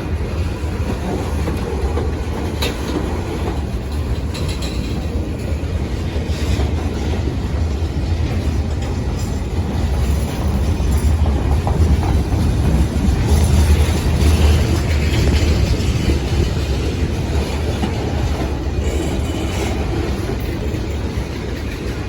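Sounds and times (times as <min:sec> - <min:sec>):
train rumbling past: 0:00.0 - 0:22.0
wheels clicking over rails: 0:00.1 - 0:22.0.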